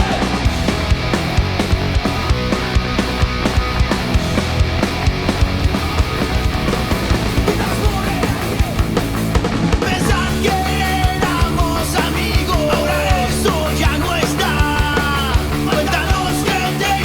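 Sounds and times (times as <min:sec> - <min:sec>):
melodic guitar line with bent notes: 0:00.0 - 0:17.0
pounding drums: 0:00.0 - 0:17.0
punk rock band playing: 0:00.0 - 0:17.0.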